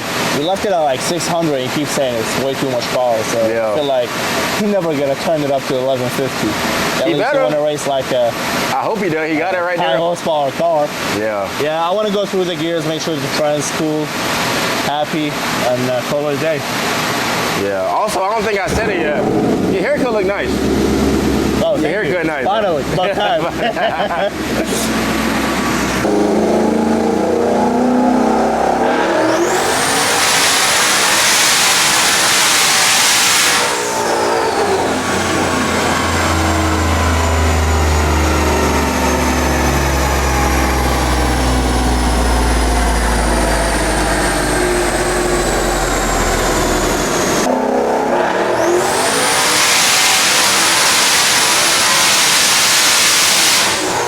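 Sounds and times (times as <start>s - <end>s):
car engine at full throttle: 0.0s - 54.0s.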